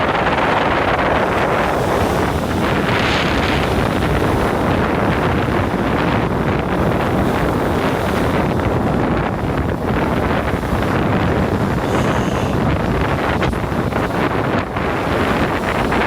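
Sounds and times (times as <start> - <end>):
sea waves on shore: 0.0 - 16.0
wind buffeting microphone: 0.0 - 16.0.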